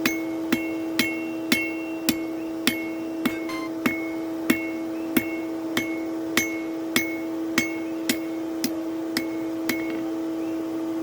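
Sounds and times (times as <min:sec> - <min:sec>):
hammer striking steel on anvil: 0:00.0 - 0:09.9
steady hum: 0:00.0 - 0:11.0.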